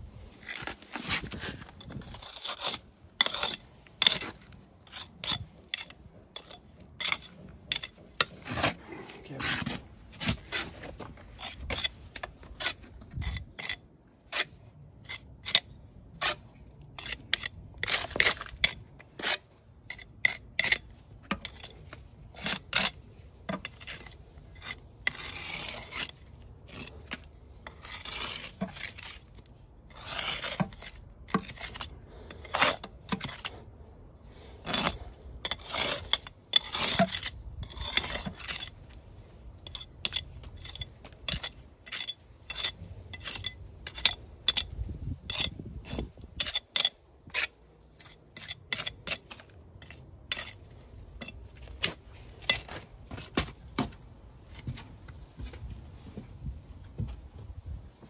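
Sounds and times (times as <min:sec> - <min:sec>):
brick jointer scraping mortar: 0:00.1 - 0:33.9, 0:34.6 - 0:53.6.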